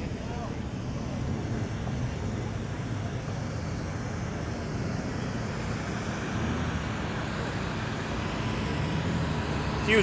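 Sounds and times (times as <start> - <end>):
car engines rumbling: 0.0 - 10.0.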